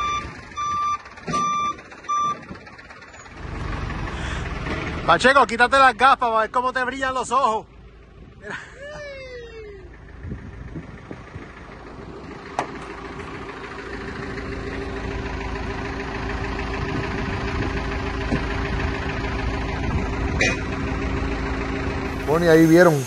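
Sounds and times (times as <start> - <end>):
backhoe engine running: 0.0 - 23.0.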